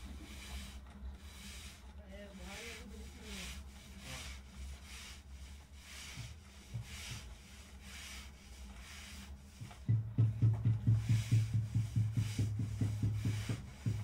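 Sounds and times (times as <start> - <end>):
hands smoothing wet clay: 0.0 - 14.0.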